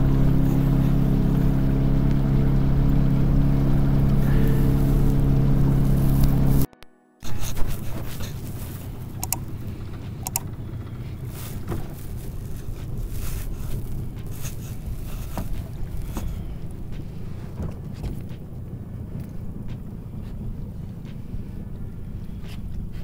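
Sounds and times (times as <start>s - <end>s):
outboard motor rumbling: 0.0s - 23.0s.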